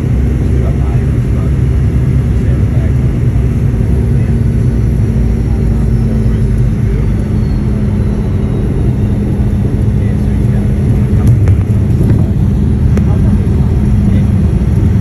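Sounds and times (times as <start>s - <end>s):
airliner rolling on runway: 0.0s - 15.0s
droning hum: 0.0s - 15.0s.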